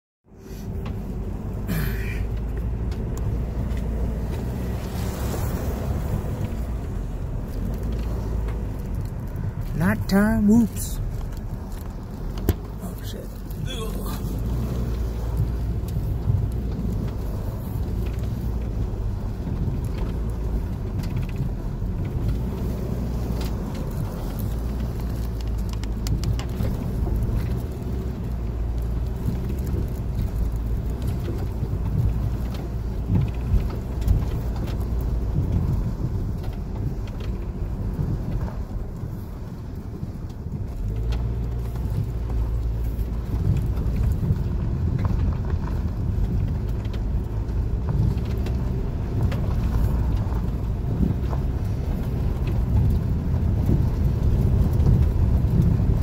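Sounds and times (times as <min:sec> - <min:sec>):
engine and tyre rumble: 0:00.2 - 0:56.0
clicks and knocks from rough road: 0:00.4 - 0:09.8, 0:10.6 - 0:56.0.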